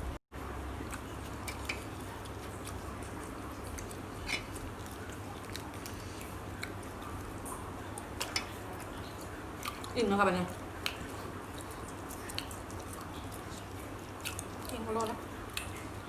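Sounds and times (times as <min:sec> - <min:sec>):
low background hum: 0:00.0 - 0:16.0
person chewing: 0:00.5 - 0:16.0.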